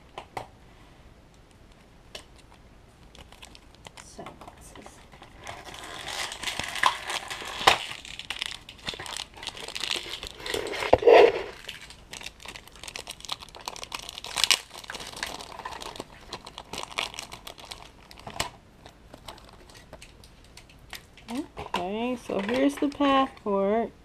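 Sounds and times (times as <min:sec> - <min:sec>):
plastic packet crinkling: 0:02.2 - 0:23.4.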